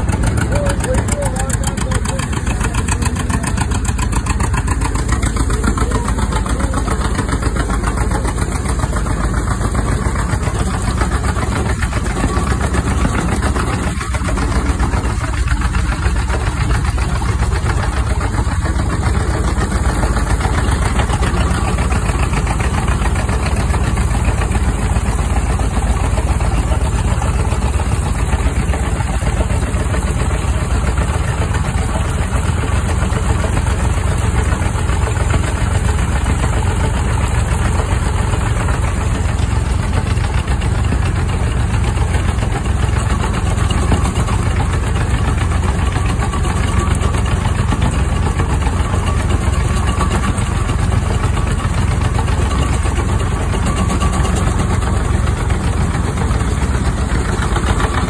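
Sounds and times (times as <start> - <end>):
threshing machine clatter and rumble: 0.0 - 58.0.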